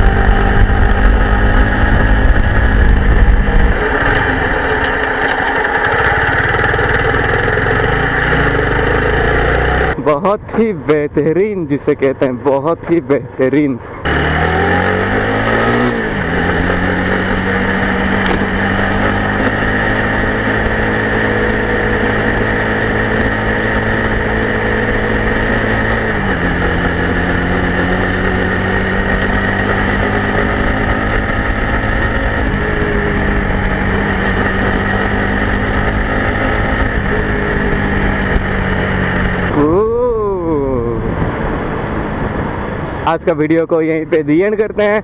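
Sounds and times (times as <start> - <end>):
motorcycle engine running: 0.0 - 11.2, 13.8 - 43.0.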